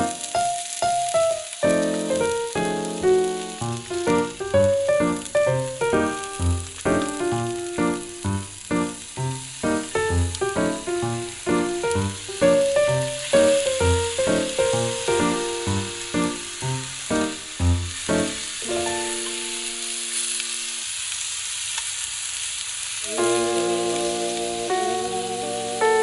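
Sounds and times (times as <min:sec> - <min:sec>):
food sizzling in frying: 0:00.0 - 0:26.0.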